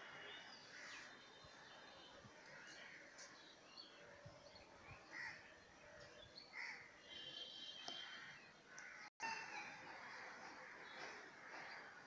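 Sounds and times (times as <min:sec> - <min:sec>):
faint birds chirping: 0:00.0 - 0:12.0
quiet outdoor ambience: 0:00.0 - 0:12.0.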